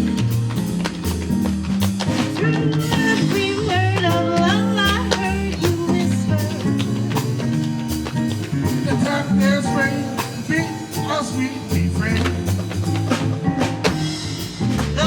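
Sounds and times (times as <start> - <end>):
band music: 0.0 - 15.0
bass: 0.0 - 15.0
drum kit: 0.0 - 15.0
sliding lead melody: 0.0 - 15.0.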